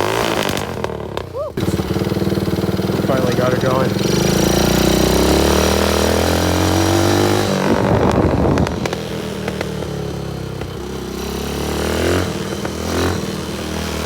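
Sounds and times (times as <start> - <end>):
quad engine running: 0.0 - 14.0.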